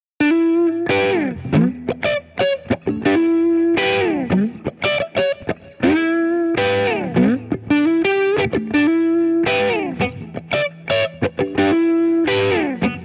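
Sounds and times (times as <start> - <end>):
distorted electric guitar: 0.2 - 13.0.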